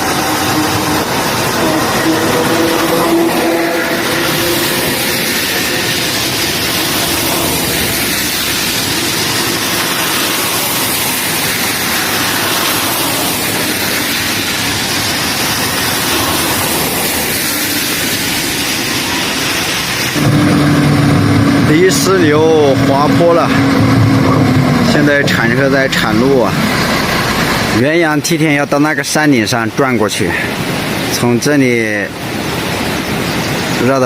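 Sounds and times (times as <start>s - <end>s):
wind buffeting microphone: 0.0s - 27.8s.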